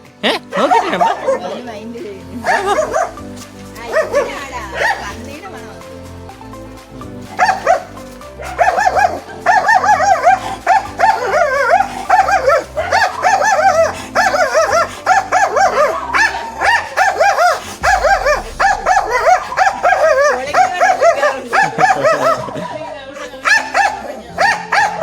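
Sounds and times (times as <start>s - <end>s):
background music: 0.0s - 25.0s
dog barking: 0.2s - 1.7s, 2.4s - 5.4s, 7.3s - 25.0s.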